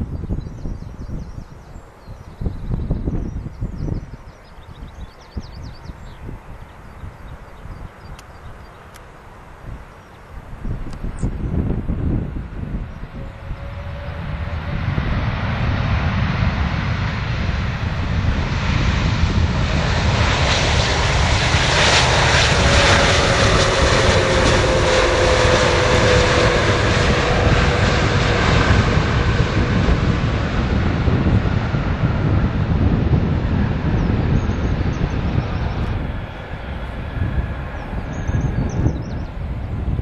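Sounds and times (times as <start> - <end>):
jet airliner passing close by: 0.0 - 40.0.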